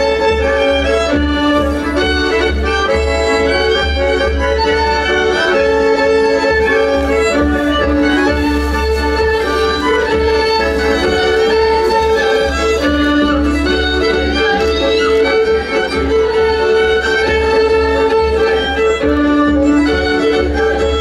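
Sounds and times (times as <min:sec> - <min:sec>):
folk fiddle music: 0:00.0 - 0:21.0.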